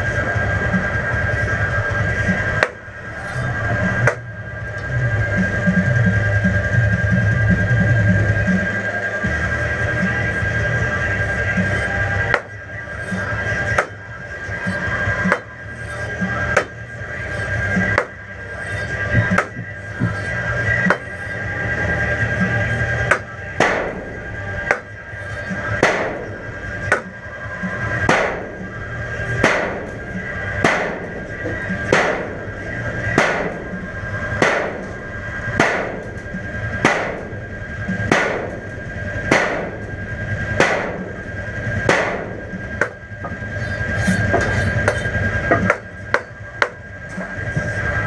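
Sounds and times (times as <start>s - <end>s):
rhythmic swelling knocks: 0.0s - 48.0s
steady high tone: 0.0s - 48.0s.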